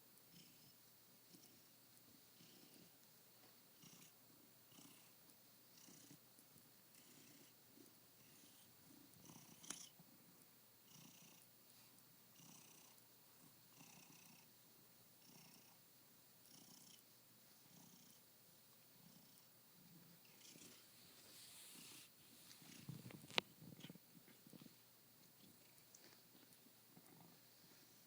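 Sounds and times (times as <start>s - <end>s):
cat purring softly: 0.2s - 28.0s.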